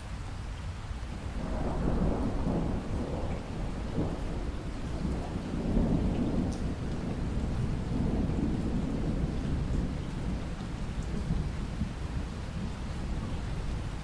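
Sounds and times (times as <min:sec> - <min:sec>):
rain falling: 0:00.0 - 0:14.0
thunder rumbling: 0:01.3 - 0:14.0.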